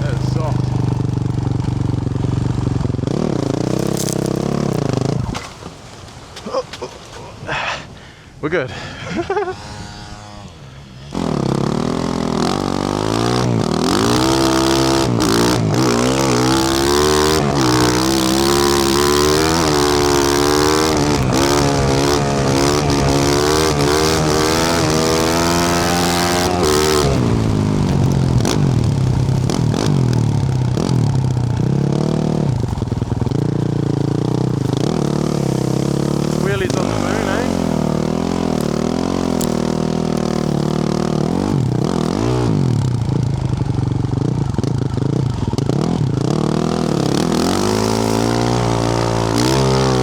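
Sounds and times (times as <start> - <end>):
motorcycle engine revving hard: 0.0 - 5.5, 9.1 - 50.0.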